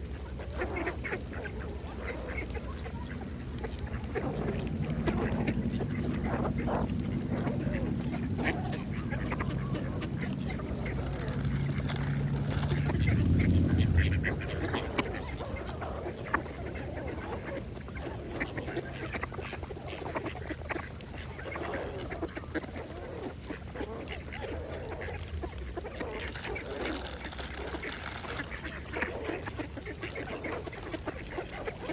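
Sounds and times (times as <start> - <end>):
clicks and splashes: 0.0 - 31.9
ducks quacking: 0.0 - 31.9
low steady hum: 0.0 - 31.9.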